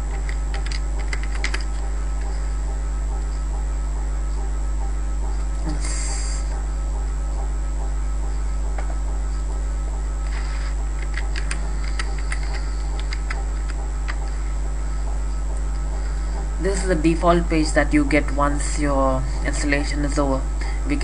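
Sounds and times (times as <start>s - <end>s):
low electrical mains hum: 0.0s - 21.0s.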